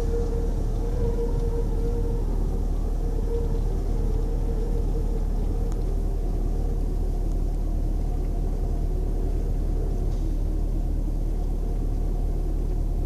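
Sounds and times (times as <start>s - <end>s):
faint steady hum: 0.0s - 13.0s
low engine rumble: 0.0s - 13.0s.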